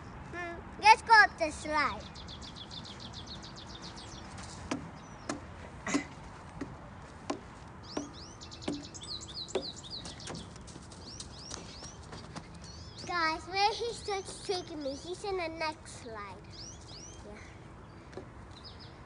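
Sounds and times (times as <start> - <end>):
small birds chirping: 1.4 - 19.0.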